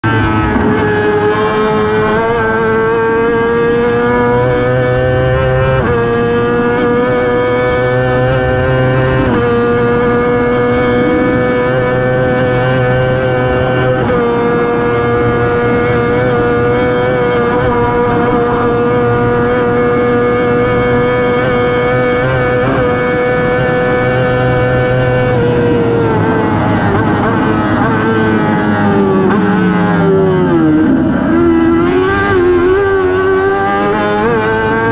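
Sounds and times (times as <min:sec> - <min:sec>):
racing engine at high revs: 0:00.0 - 0:34.9
rushing wind: 0:00.0 - 0:34.9.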